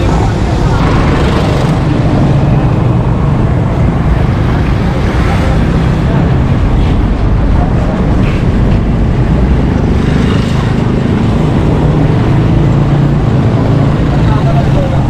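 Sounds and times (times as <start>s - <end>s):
heavy low rumble: 0.0s - 15.0s
passing cars and motorbikes: 0.0s - 15.0s.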